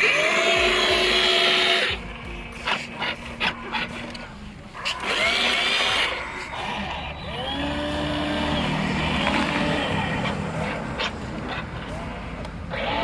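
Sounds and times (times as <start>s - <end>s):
small electric motors whirring: 0.0s - 4.2s, 4.8s - 11.2s.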